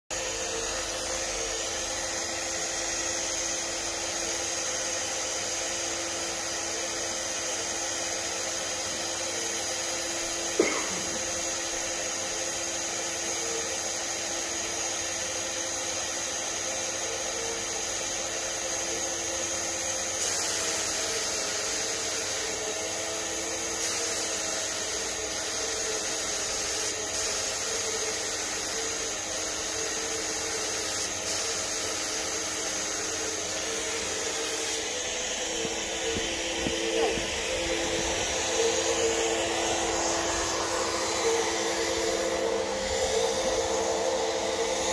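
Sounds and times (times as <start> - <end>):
paint sprayer turbine whining: 0.1 - 44.9
spray gun hissing: 0.1 - 44.9.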